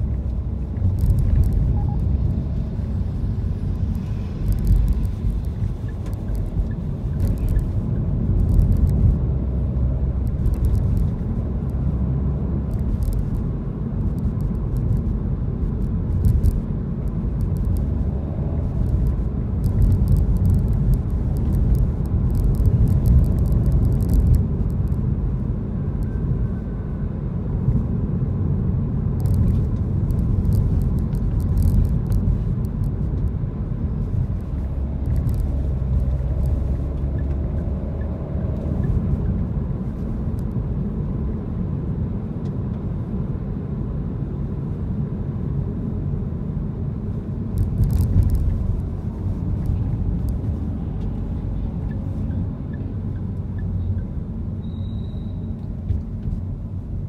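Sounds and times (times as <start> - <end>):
car driving low rumble: 0.0 - 57.0.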